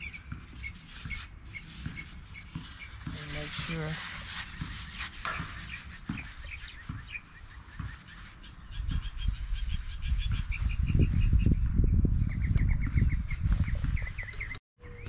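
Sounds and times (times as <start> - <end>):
bird chirping rapidly: 0.0 - 15.0.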